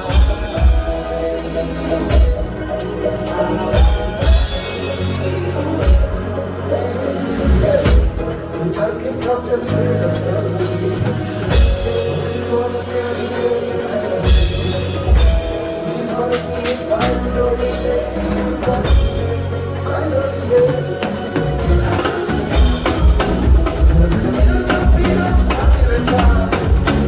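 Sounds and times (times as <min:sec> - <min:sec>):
deep bass line: 0:00.0 - 0:27.0
drum kit: 0:00.0 - 0:27.0
live band playing: 0:00.0 - 0:27.0.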